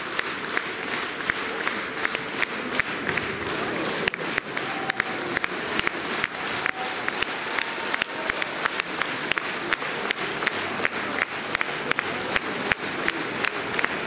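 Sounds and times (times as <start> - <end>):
audience applauding: 0.0 - 14.0
sharp individual claps: 0.0 - 14.0.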